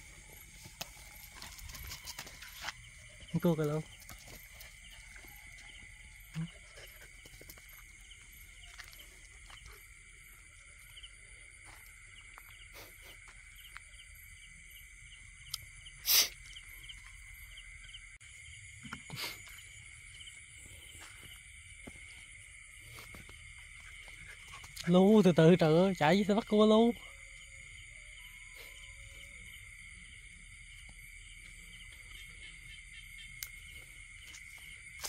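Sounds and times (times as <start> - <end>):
night insects trilling: 0.0 - 35.0.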